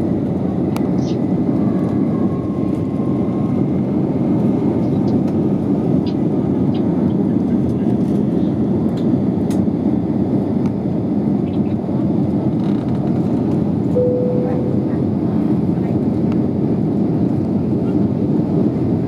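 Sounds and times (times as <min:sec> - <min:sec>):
jet engines in aircraft cabin: 0:00.0 - 0:19.0.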